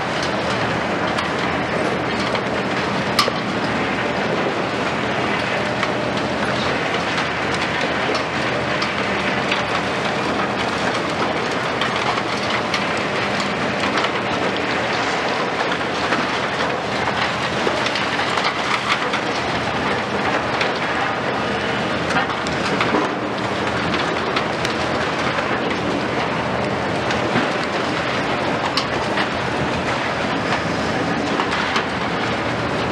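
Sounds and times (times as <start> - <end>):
diesel excavator engines running: 0.0 - 32.9.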